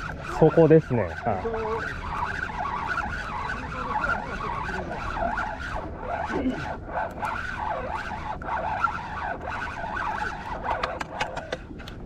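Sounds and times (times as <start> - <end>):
fishing reel whining: 0.0 - 11.6.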